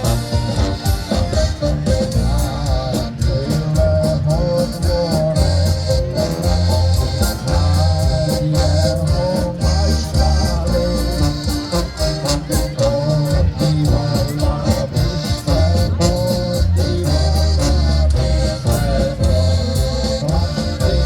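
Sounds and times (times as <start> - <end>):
accordion melody: 0.0 - 21.0
polka band playing: 0.0 - 21.0.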